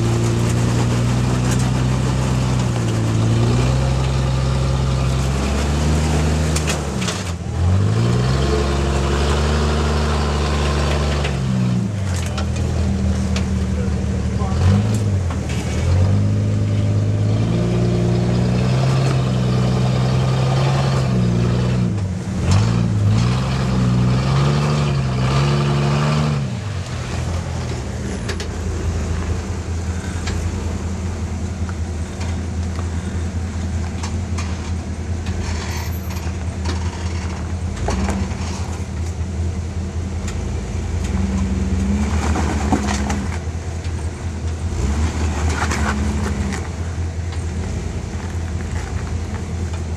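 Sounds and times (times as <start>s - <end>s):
engine running at low speed: 0.0s - 49.9s
off-road vehicle engine revving: 0.0s - 49.9s.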